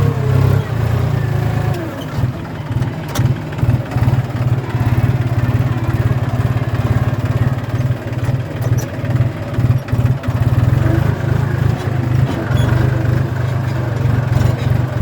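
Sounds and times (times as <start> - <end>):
tractor engine pulsing: 0.0 - 15.0.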